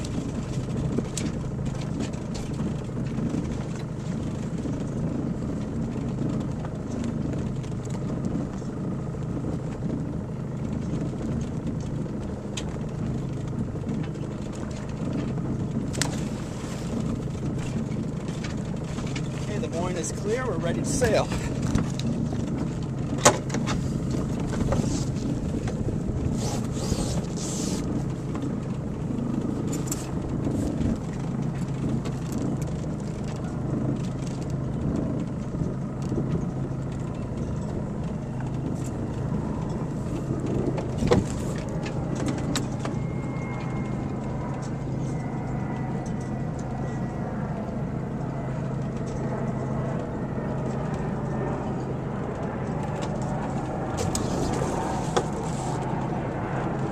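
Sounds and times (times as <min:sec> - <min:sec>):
boat engine droning: 0:00.0 - 0:56.9
wind and water noise: 0:00.0 - 0:56.9.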